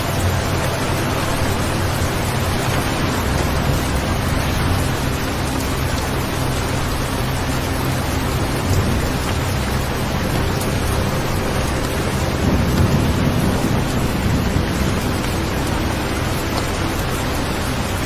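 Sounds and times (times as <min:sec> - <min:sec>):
low rumble: 0:00.0 - 0:18.0
steady rain hiss: 0:00.0 - 0:18.0.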